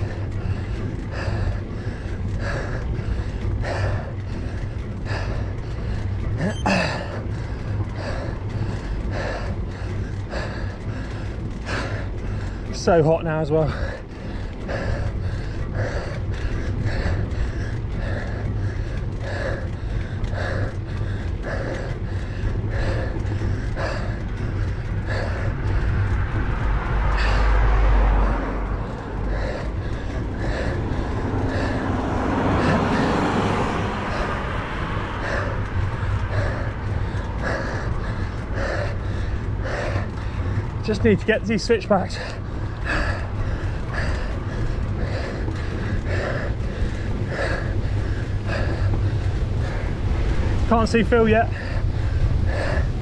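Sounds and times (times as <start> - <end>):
car passing: 0.0 - 53.0
cyclist panting: 0.0 - 53.0
wind rumble on microphone: 0.0 - 53.0.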